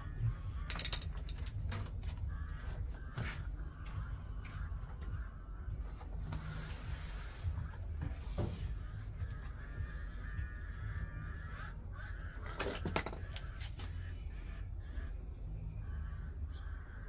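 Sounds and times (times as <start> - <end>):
birds calling: 0.0 - 17.0
steady low hum: 0.0 - 17.0.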